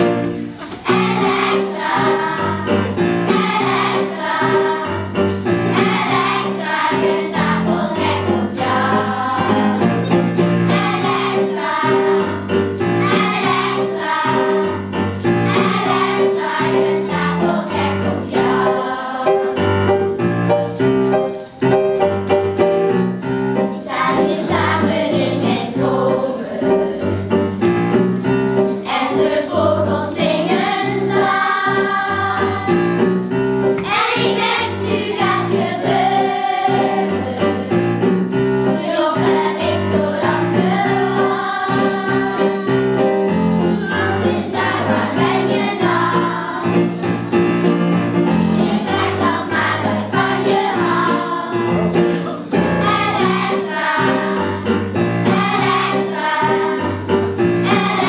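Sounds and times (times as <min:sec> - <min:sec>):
children's choir singing: 0:00.0 - 0:21.7, 0:23.5 - 0:58.0
piano accompaniment: 0:00.0 - 0:58.0.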